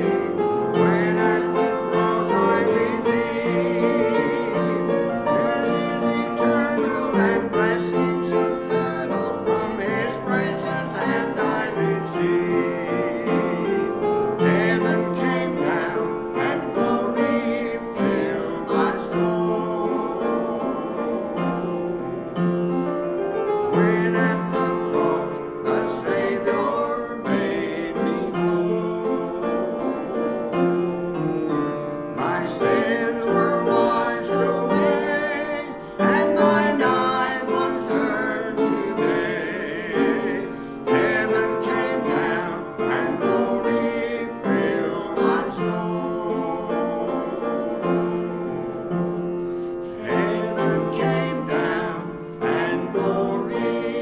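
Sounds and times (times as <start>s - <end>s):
woman and man singing duet: 0.0s - 22.4s, 23.7s - 30.6s, 32.2s - 49.2s, 49.8s - 54.0s
piano accompaniment: 0.0s - 54.0s.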